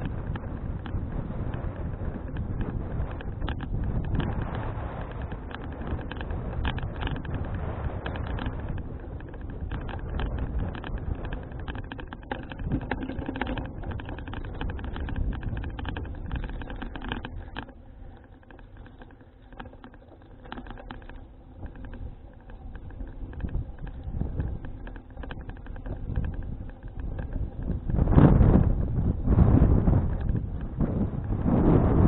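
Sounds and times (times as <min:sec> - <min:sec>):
bicycle clicks and rattles: 0:00.0 - 0:32.0
wind buffeting a microphone: 0:00.0 - 0:32.0.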